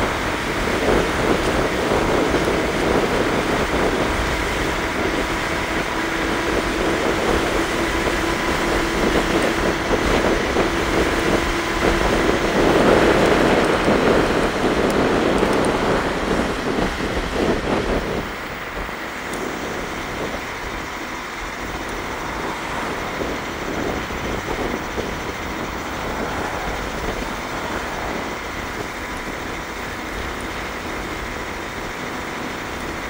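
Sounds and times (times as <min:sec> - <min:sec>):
road noise: 0:00.0 - 0:33.0
wind rushing over microphone: 0:00.0 - 0:33.0.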